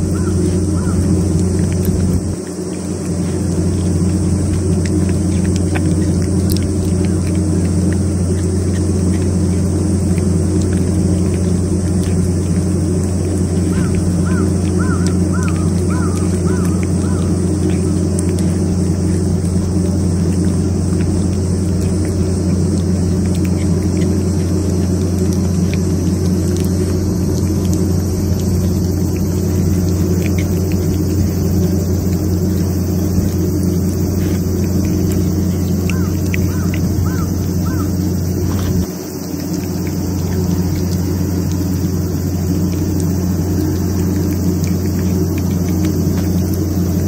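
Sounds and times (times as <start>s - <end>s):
cat chewing food from metal bowl: 0.0s - 47.0s
loud steady low hum: 0.0s - 47.0s.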